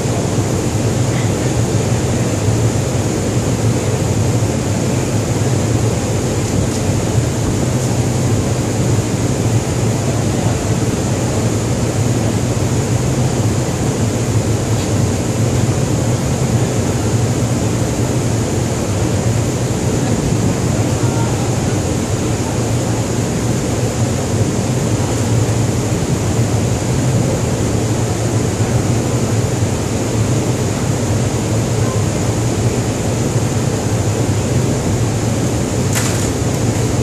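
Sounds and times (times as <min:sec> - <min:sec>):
ship machinery drone: 0:00.0 - 0:37.0.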